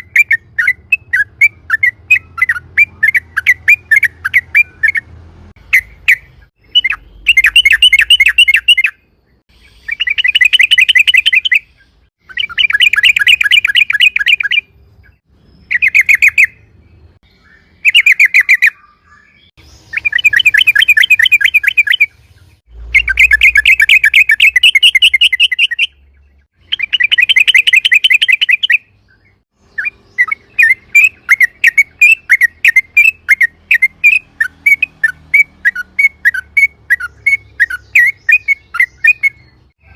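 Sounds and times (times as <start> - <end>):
bird chattering trills: 0.0 - 16.8, 17.4 - 39.9
bird chirps: 0.0 - 39.9.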